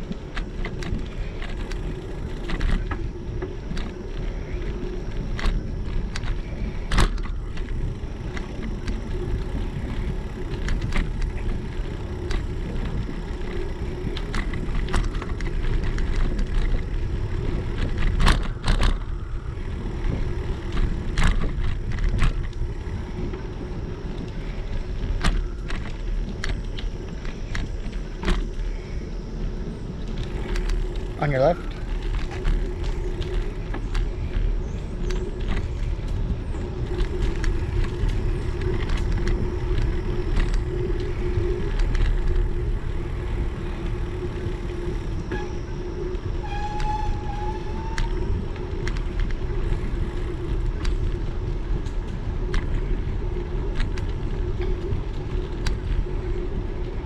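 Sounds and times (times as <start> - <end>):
bicycle tyres rumbling on asphalt: 0.0 - 57.0
bike clicks and rattles over bumps: 0.0 - 57.0
wind on microphone: 0.0 - 57.0.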